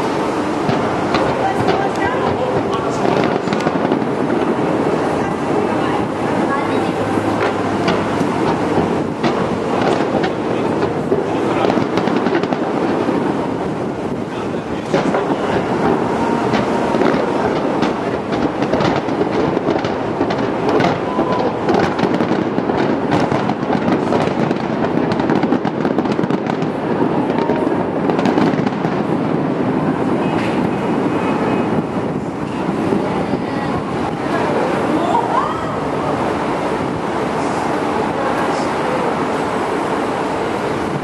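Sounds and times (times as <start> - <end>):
fireworks bursting and crackling: 0.0 - 35.1.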